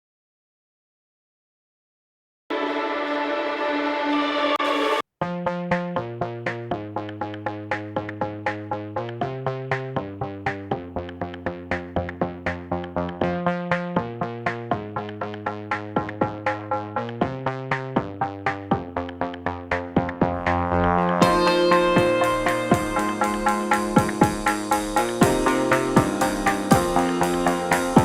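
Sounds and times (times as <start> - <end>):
electronic music with steady beat: 4.5 - 5.0, 6.0 - 28.0.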